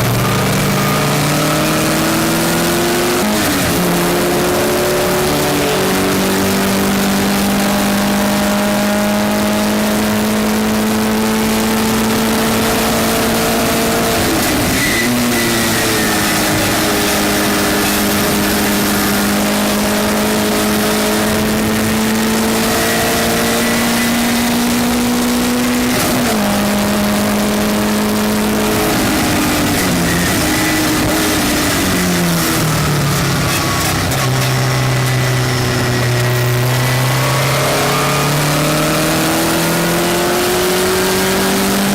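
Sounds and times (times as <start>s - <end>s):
race car engine revving: 0.0s - 41.9s
wind and road noise: 0.0s - 41.9s.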